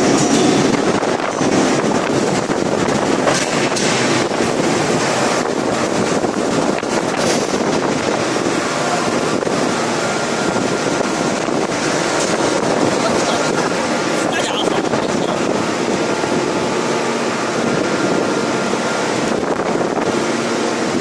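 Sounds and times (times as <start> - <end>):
hydraulic forging press noise: 0.0 - 21.0.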